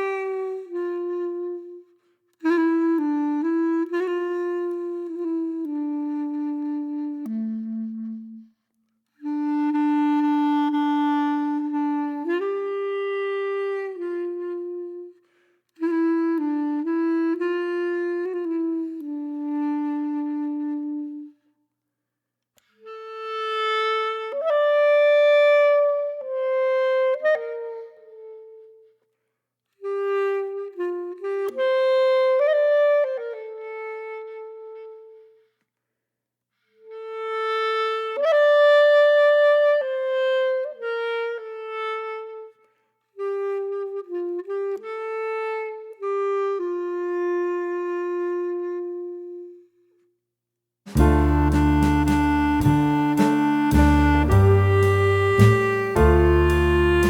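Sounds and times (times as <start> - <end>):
slow woodwind melody: 0.0 - 21.5, 22.8 - 29.0, 29.8 - 35.5, 36.8 - 49.8, 50.9 - 57.0.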